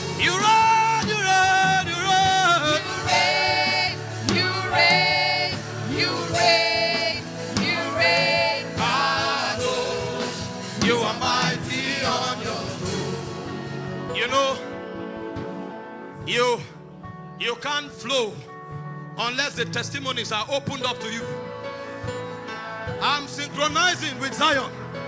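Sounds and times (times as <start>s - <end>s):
low instrumental backing: 0.0s - 25.0s.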